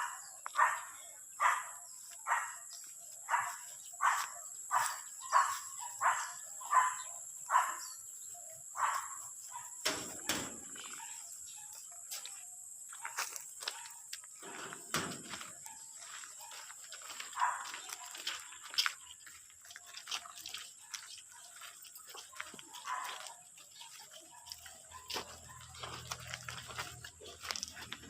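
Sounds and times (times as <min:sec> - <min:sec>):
dog barking: 0:00.0 - 0:08.0, 0:08.7 - 0:11.9, 0:13.0 - 0:18.6, 0:20.8 - 0:28.0.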